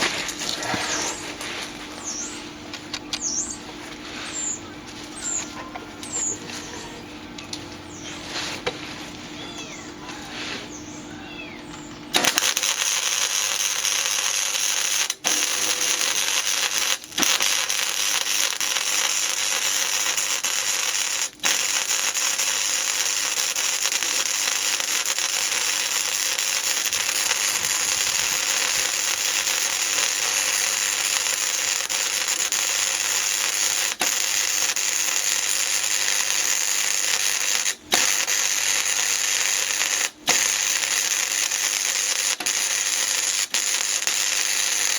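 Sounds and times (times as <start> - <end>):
arc welding crackle: 0.0 - 11.1, 11.7 - 44.9.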